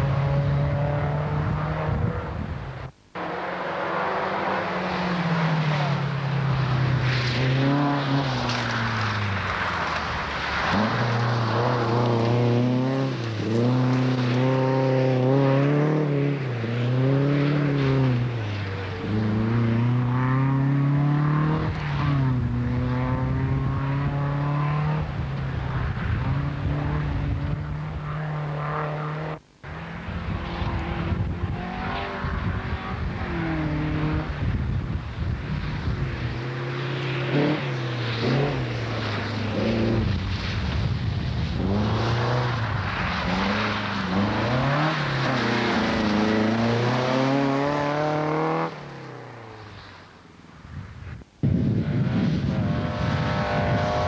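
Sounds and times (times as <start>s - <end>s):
rally car engines revving: 0.0s - 50.1s, 51.2s - 54.0s.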